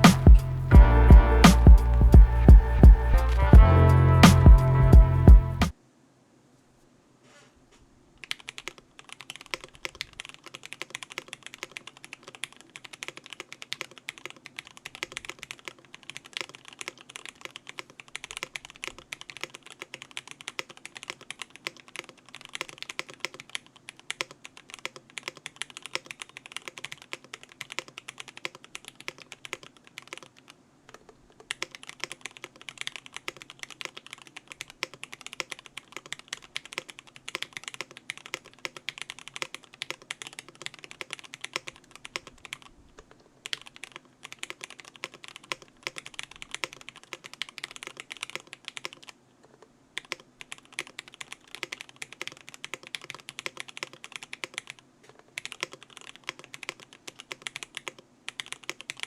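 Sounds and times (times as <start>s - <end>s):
mechanical keyboard typing: 8.2s - 59.0s.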